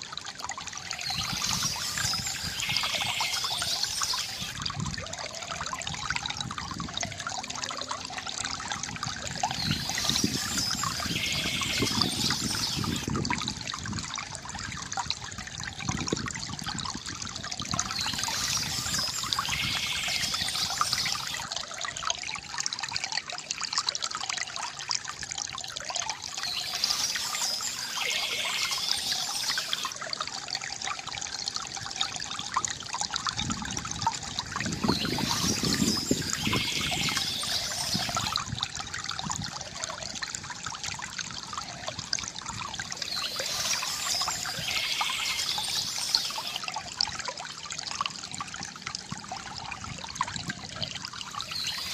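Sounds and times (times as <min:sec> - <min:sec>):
water trickling from fountain: 0:00.0 - 0:51.9.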